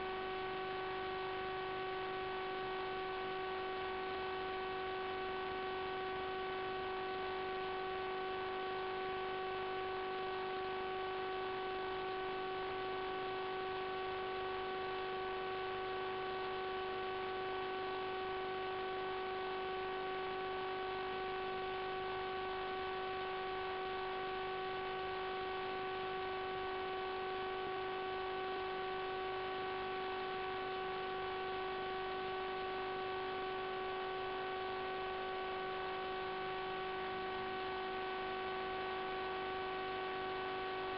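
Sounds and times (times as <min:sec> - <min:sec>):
electrical interference hum: 0:00.0 - 0:40.9.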